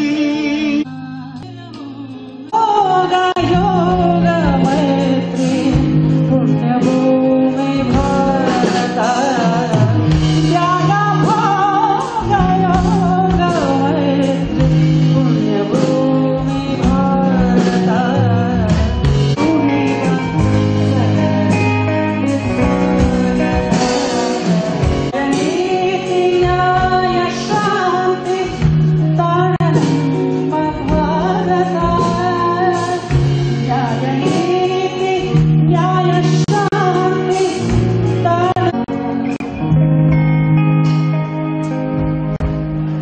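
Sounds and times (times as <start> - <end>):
person singing: 0.0 - 41.8
rock band music: 0.0 - 43.0.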